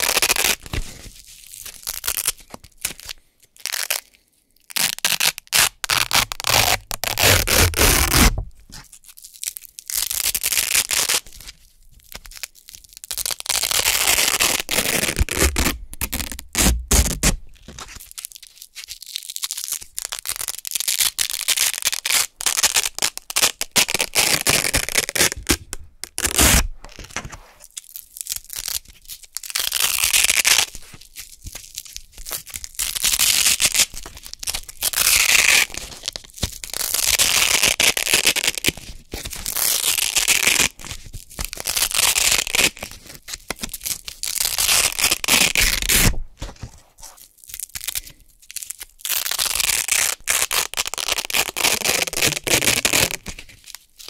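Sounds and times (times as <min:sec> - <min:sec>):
velcro ripping apart: 0:00.0 - 0:11.5, 0:12.1 - 0:54.0.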